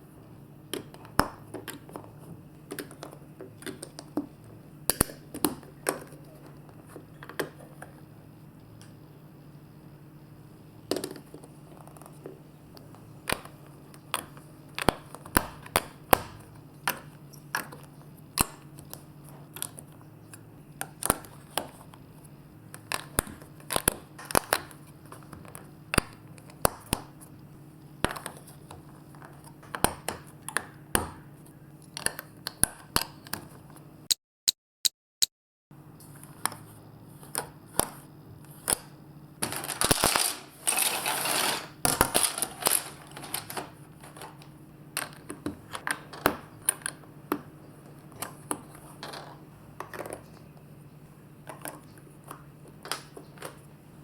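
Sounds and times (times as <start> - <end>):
faint steady hum: 0.0 - 34.1, 35.7 - 54.0.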